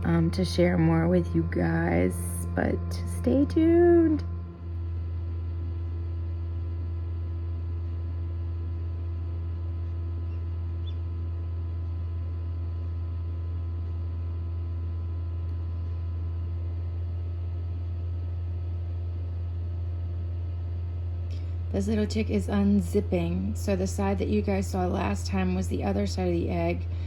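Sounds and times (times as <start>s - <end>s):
incubator electrical hum: 0.0s - 27.0s.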